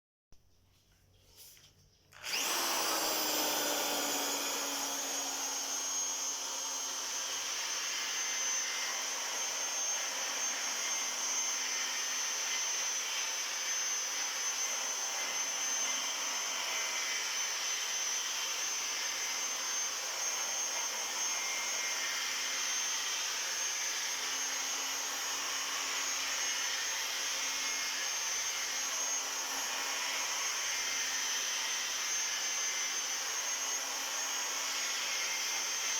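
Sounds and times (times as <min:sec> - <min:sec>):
power tool grinding brake drum: 0:02.2 - 0:35.9.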